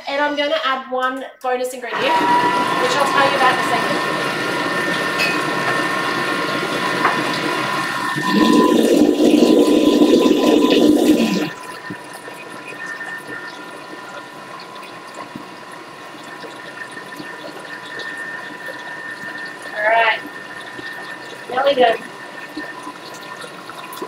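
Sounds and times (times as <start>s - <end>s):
blender blades churning batter: 1.9s - 24.0s
motor whine: 1.9s - 24.0s.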